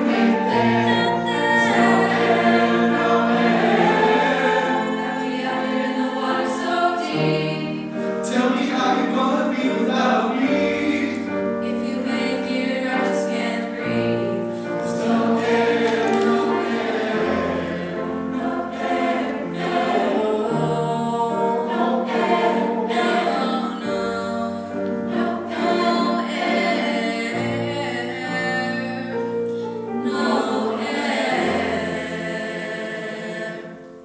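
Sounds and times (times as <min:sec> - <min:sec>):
choir singing in harmony: 0:00.0 - 0:34.0.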